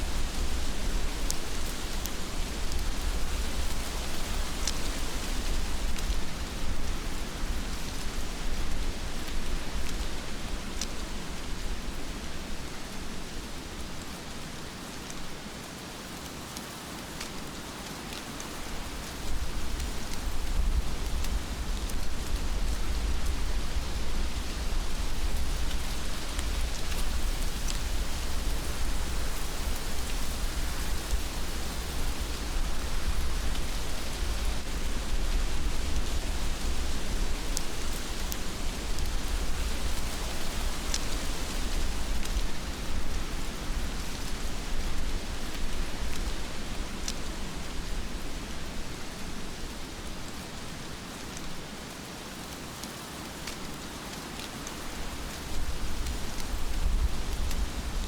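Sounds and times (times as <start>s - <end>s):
heavy rain: 0.0s - 58.0s
sharp raindrops: 0.0s - 58.0s.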